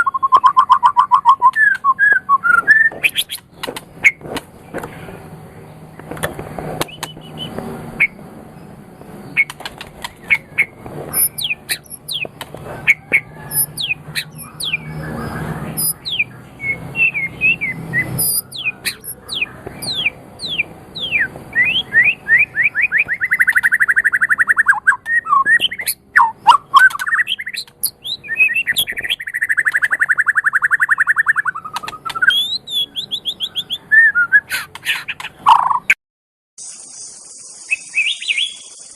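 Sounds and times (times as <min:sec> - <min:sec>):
songbird whistling and trilling: 0:00.0 - 0:04.2, 0:06.8 - 0:08.2, 0:09.3 - 0:35.9, 0:36.6 - 0:38.9.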